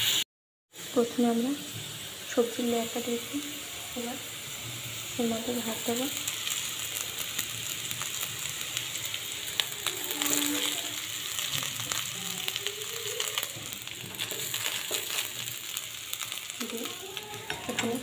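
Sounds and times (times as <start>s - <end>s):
oil sizzling in a frying pan: 0.0s - 18.0s.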